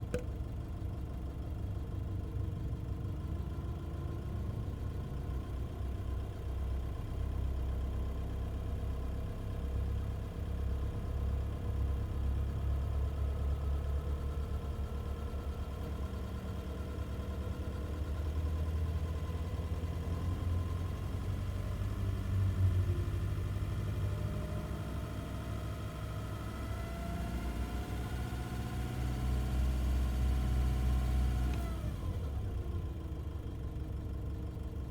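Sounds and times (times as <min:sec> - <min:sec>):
engine running low rumble: 0:00.0 - 0:34.9.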